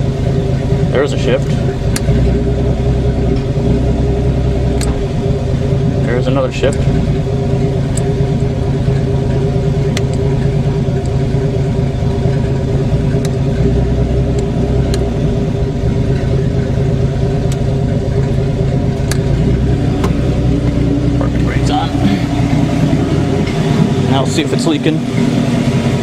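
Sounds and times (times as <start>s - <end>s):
deep low rumble: 0.0s - 26.0s
engine running steadily: 0.0s - 26.0s.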